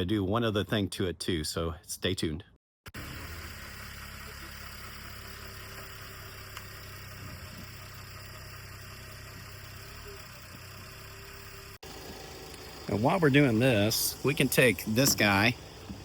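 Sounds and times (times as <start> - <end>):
car engine idling: 3.0 - 16.0.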